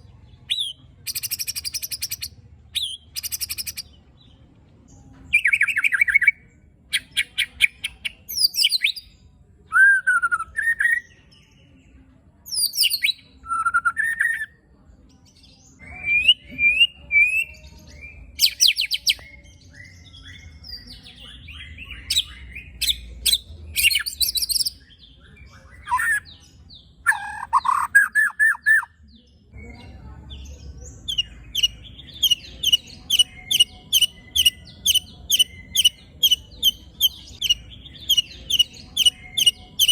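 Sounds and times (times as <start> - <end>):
bird singing harsh phrases: 0.0 - 39.9.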